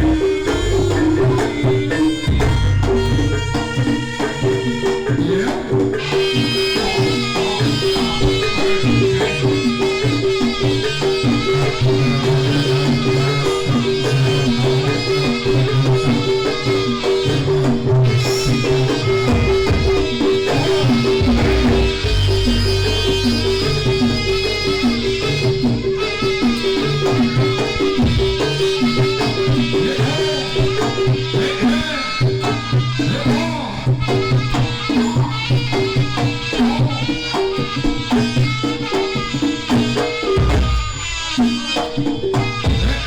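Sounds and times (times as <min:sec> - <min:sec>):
drums and tuned percussion: 0:00.0 - 0:43.0.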